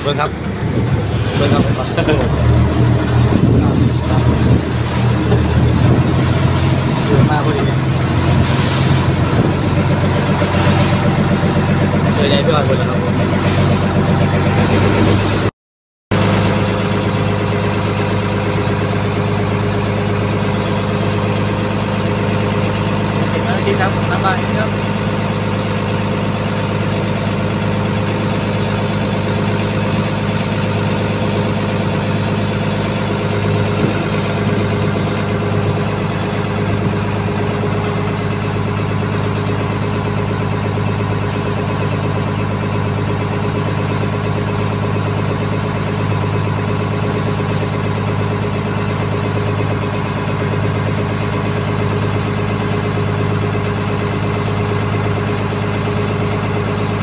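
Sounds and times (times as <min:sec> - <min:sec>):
boat engine running: 0:00.0 - 0:15.5, 0:16.1 - 0:57.0.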